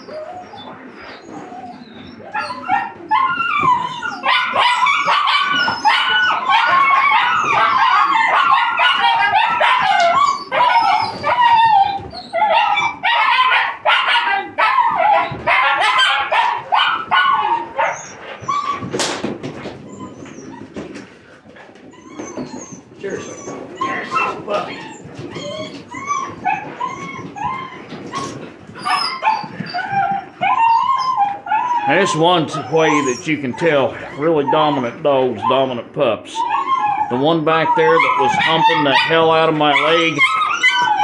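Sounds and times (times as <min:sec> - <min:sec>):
puppies barking and yipping: 0:00.0 - 0:41.0.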